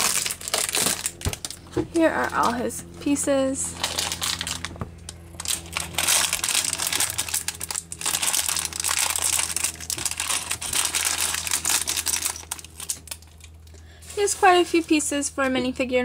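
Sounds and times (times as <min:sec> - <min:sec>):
plastic bag crinkling: 0:00.0 - 0:02.6, 0:03.6 - 0:15.4.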